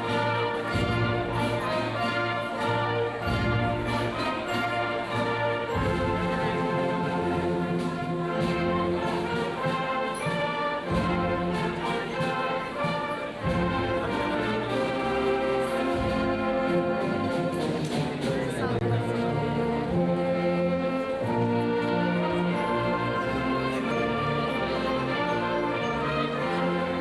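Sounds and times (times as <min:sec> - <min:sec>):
orchestral music with brass: 0:00.0 - 0:27.0.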